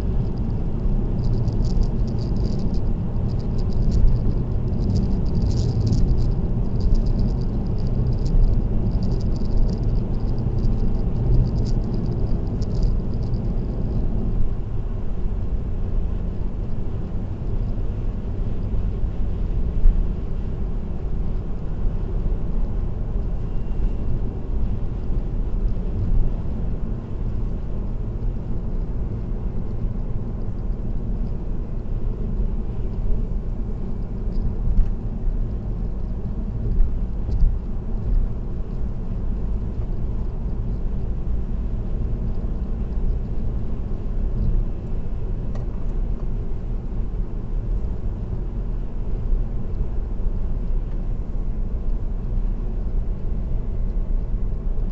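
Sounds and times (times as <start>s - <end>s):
tyre and engine rumble: 0.0s - 54.9s.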